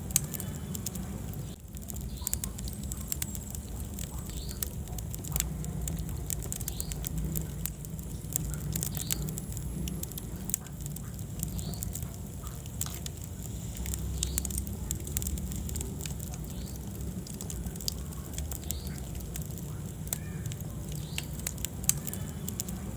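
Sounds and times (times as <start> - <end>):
fire crackling and popping: 0.0 - 22.9
low rumble of flames: 0.0 - 22.9.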